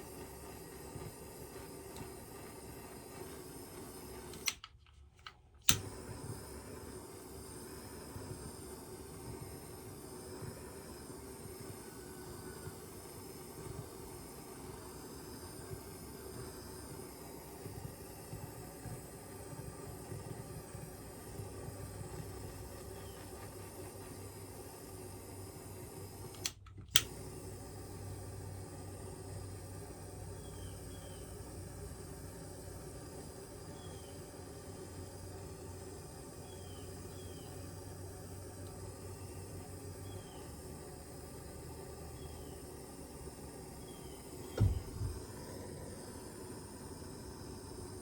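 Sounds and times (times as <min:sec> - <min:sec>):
fan-like hum: 0:00.0 - 0:48.0.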